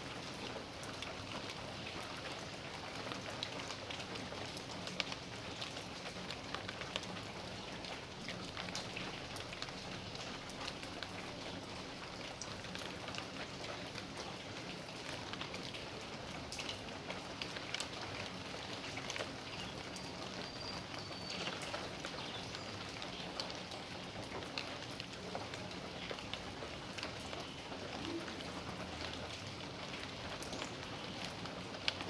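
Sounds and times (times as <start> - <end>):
rain drops ticking on surfaces: 0.0 - 32.0.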